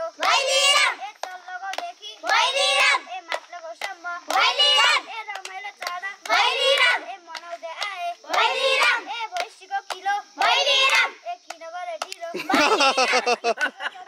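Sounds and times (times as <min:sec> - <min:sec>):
group chanting call-and-response: 0:00.0 - 0:13.3
hand claps: 0:00.2 - 0:13.8.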